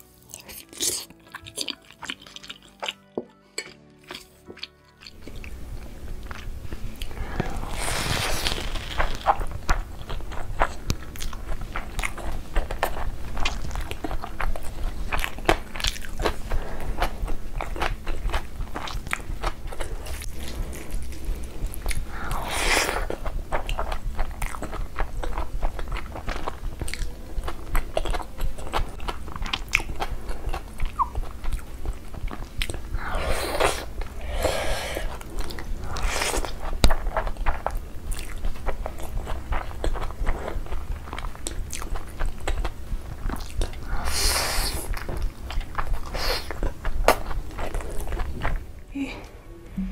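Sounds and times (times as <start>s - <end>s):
wet chewing and lip smacks: 0.3s - 7.6s, 8.5s - 34.2s, 35.0s - 48.7s.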